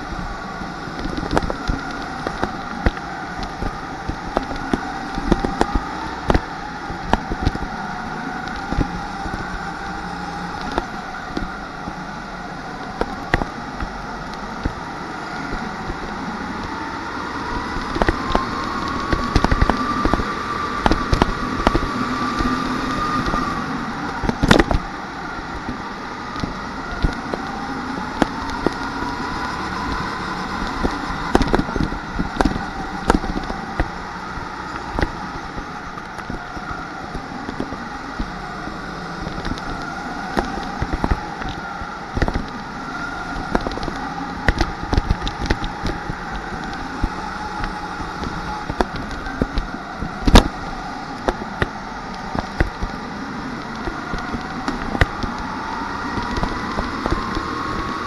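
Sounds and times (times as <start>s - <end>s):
kart engine drone: 0.0s - 58.0s.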